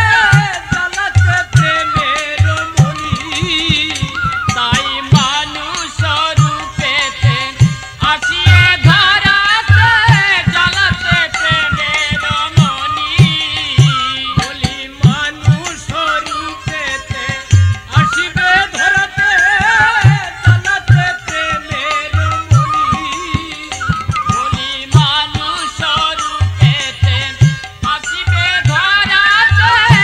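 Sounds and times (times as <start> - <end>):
wavering devotional melody: 0.0 - 30.0.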